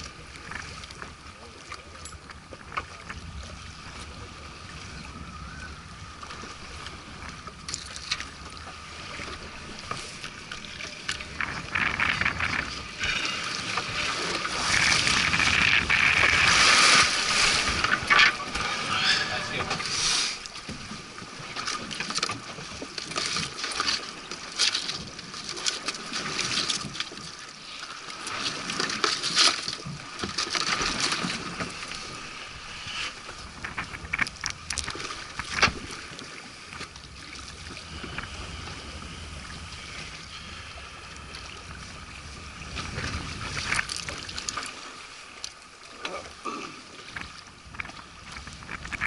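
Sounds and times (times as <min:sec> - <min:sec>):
water sloshing and splashing: 0:00.0 - 0:05.3, 0:05.9 - 0:49.0.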